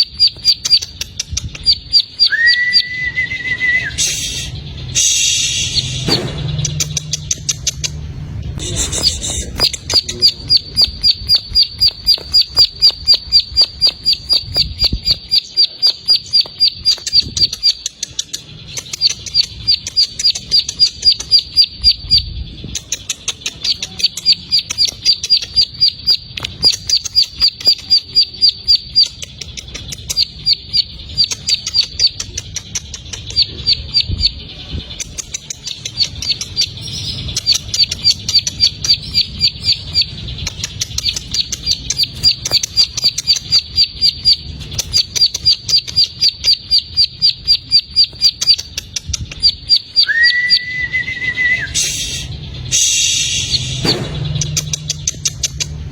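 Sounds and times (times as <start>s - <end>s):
bird high repeated call: 0.0s - 8.0s, 8.6s - 32.3s, 35.6s - 48.8s, 49.4s - 55.5s.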